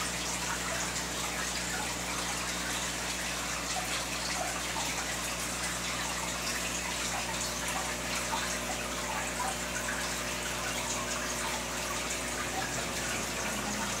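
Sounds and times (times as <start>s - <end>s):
aquarium air bubbles: 0.0s - 14.0s.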